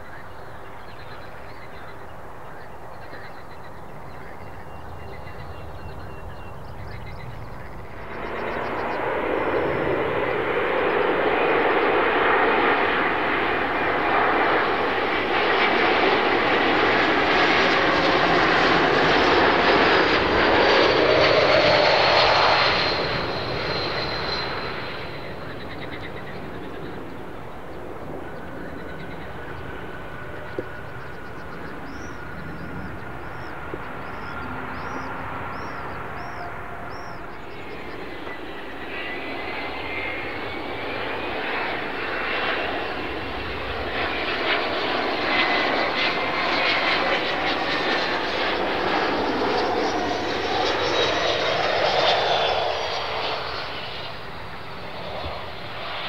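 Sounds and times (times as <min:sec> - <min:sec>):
jet airliner engines passing: 0:00.0 - 0:56.0.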